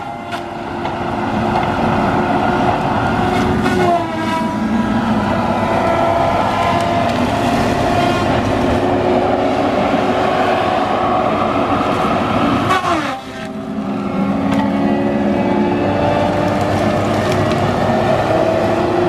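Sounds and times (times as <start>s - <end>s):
heavy machine engine and hydraulics drone: 0.0s - 19.0s.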